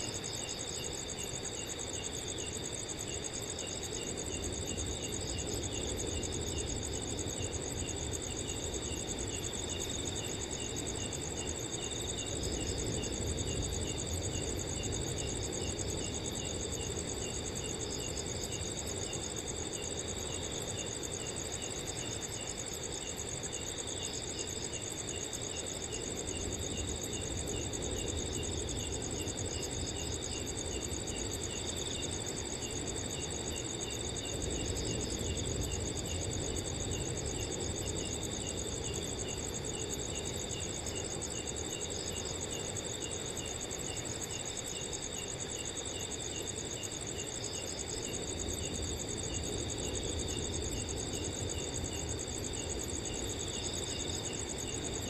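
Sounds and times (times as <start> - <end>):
cricket chirping: 0.0 - 55.0
crickets trilling: 0.0 - 55.0.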